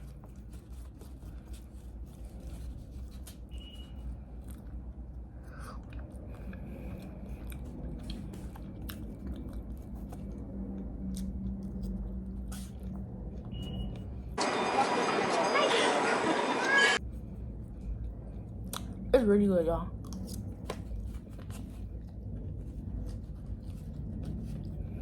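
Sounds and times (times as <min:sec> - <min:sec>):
person chewing and crunching food: 0:00.0 - 0:14.3, 0:17.2 - 0:19.1, 0:19.9 - 0:25.0
low steady hum: 0:00.0 - 0:25.0.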